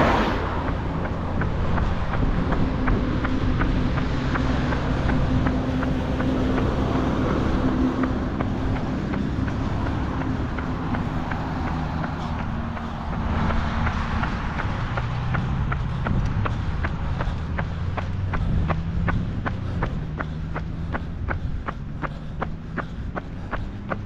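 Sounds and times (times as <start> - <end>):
runner's footsteps: 0.0 - 24.0
traffic rumble: 0.0 - 24.0.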